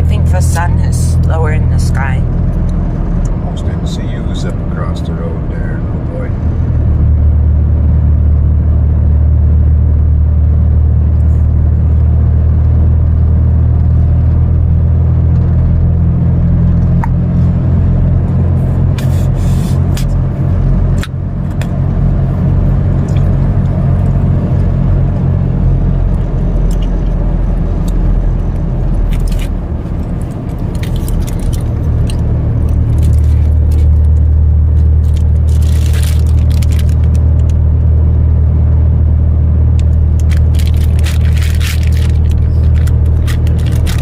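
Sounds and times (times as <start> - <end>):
truck engine and road noise: 0.0 - 44.0.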